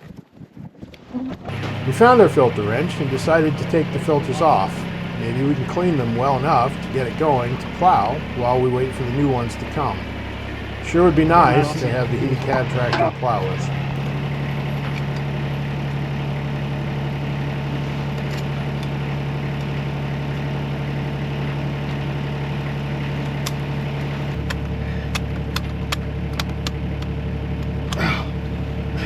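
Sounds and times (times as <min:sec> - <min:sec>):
engine idling: 0:01.5 - 0:29.0.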